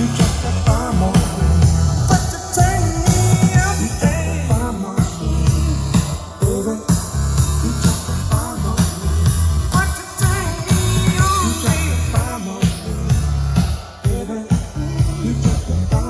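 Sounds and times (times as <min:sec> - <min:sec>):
rock pop song over speakers: 0:00.0 - 0:16.0.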